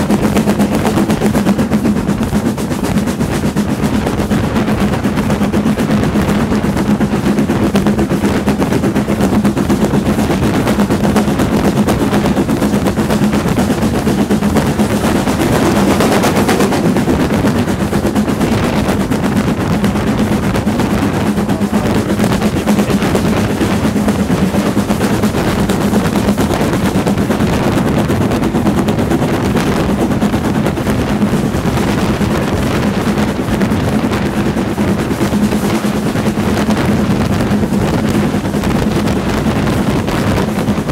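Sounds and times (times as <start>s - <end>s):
steam locomotive exhaust beating: 0.0s - 40.9s
train carriage running noise: 0.0s - 40.9s.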